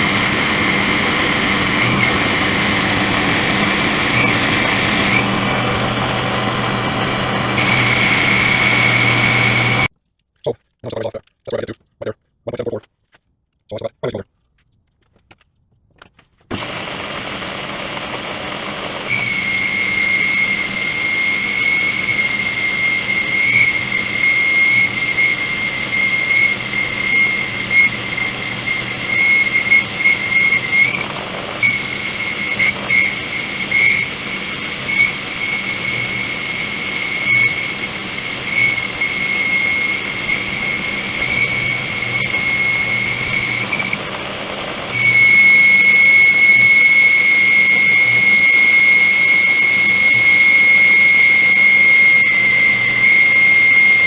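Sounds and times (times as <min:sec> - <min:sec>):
high-pitched cutter whine: 0:00.0 - 0:09.9, 0:16.5 - 0:54.0
machine tool cutting metal: 0:00.0 - 0:09.9, 0:16.5 - 0:54.0.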